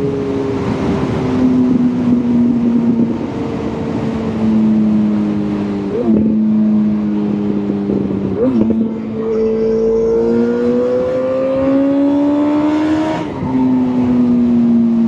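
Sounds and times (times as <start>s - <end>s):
motorcycle engine revving: 2.8s - 15.0s.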